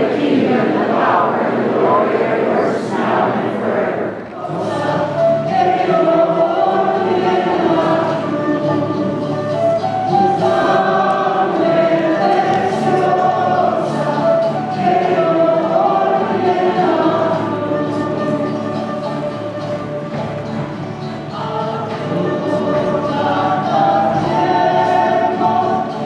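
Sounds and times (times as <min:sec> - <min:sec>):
church choir singing: 0:00.0 - 0:26.0
low accompaniment: 0:00.0 - 0:26.0.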